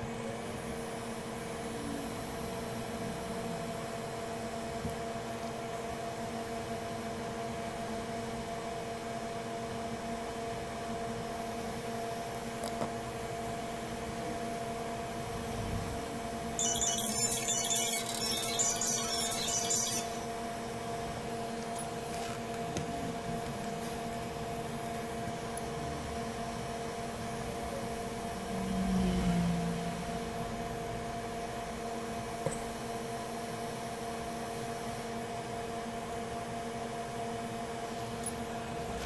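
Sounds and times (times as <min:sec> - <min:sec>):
electrical equipment hum: 0:00.0 - 0:39.0.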